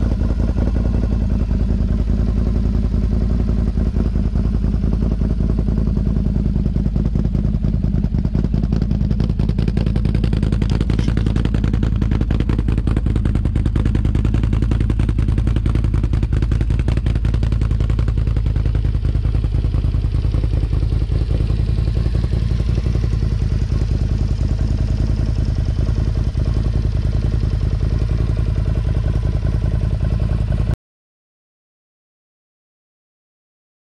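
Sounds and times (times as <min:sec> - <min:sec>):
deep pulsing engine exhaust: 0:00.0 - 0:30.8.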